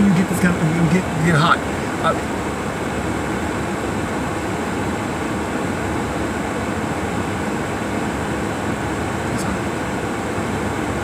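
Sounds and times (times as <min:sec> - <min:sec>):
car air-conditioning blower: 0:00.0 - 0:11.0.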